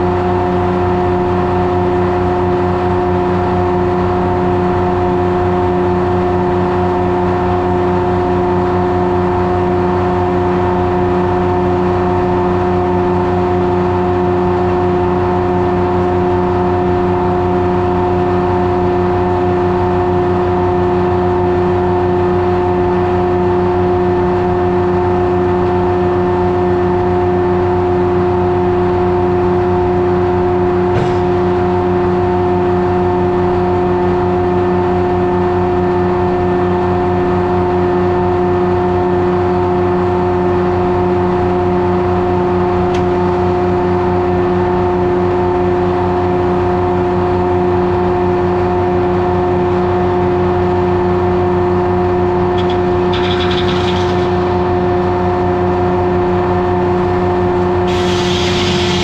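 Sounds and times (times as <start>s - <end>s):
two-stroke diesel engine running: 0.0s - 59.0s.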